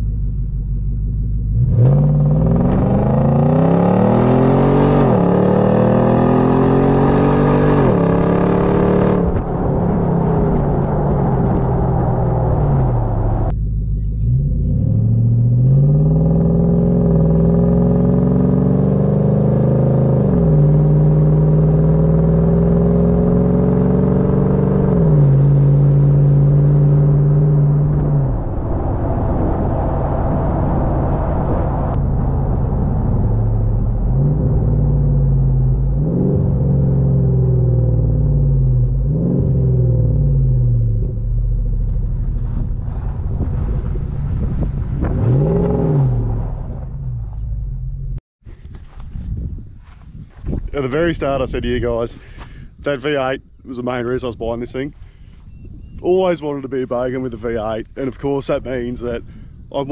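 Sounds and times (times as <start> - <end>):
car engine accelerating: 0.0 - 48.2.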